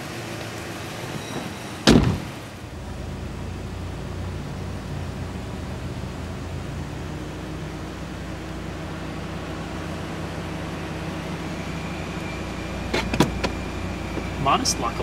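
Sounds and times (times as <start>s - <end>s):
low mechanical hum: 2.5s - 15.0s.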